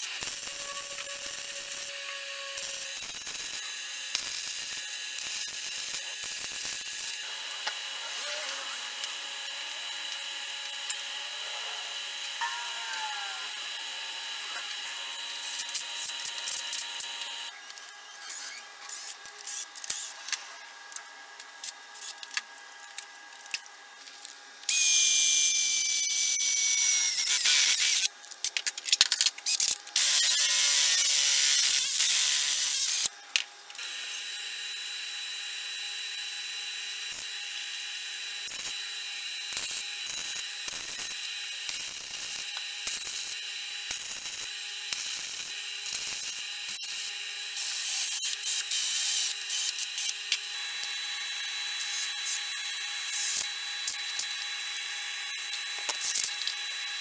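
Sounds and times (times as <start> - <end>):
electric drill whining through steel: 0.0 - 17.6, 24.7 - 28.1, 29.5 - 33.1, 33.8 - 57.0
quiet steady tool sound: 0.0 - 57.0.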